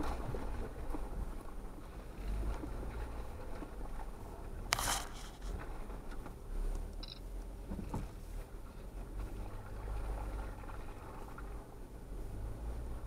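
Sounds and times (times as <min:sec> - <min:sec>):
off-road vehicles rumbling: 0:00.0 - 0:13.0.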